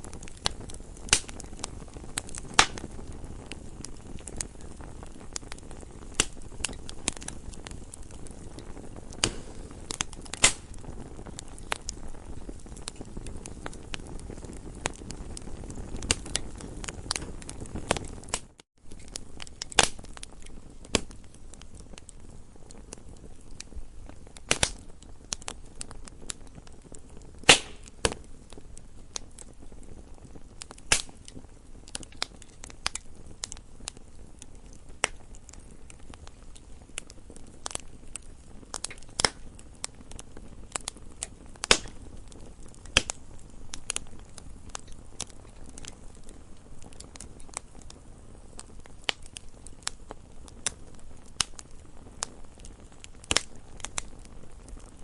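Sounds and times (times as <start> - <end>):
burning wood popping and snapping: 0.0 - 55.0
low fire hiss: 0.0 - 55.0.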